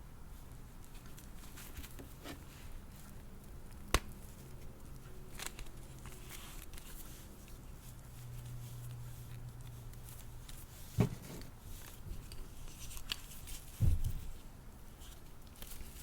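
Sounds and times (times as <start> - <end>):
soft rustles: 0.3 - 3.5, 4.2 - 16.0.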